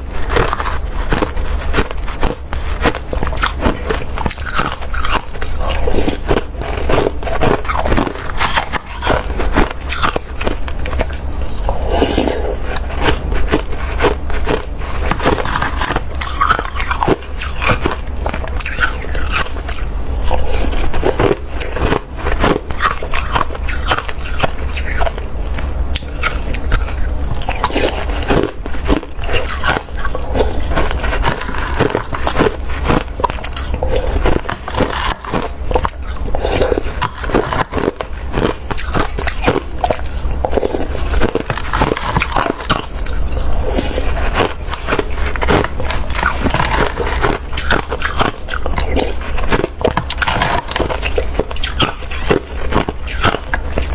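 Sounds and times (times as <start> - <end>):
crunching of slushy ice: 0.0 - 53.9.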